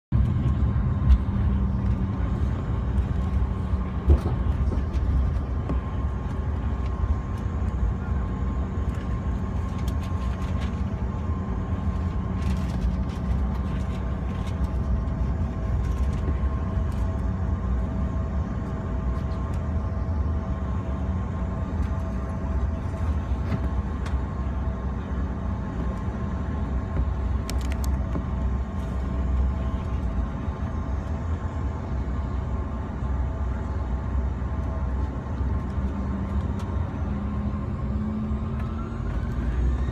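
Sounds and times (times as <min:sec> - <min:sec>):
jet engines running at low thrust: 0:00.0 - 0:39.9.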